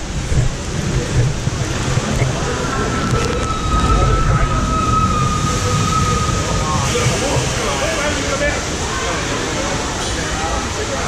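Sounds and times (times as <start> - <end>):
water rushing through channel: 0.0 - 11.0.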